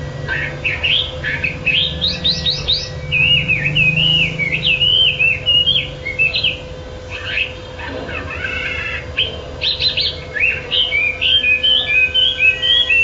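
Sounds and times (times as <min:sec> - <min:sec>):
bird singing: 0:00.0 - 0:13.0.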